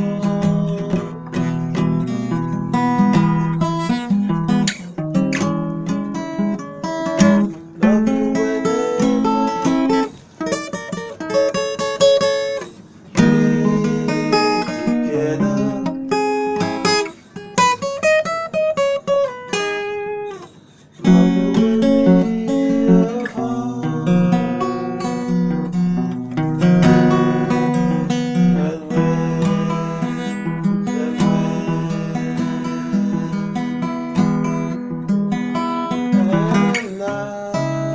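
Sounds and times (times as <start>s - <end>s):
acoustic guitar playing: 0.0s - 37.9s.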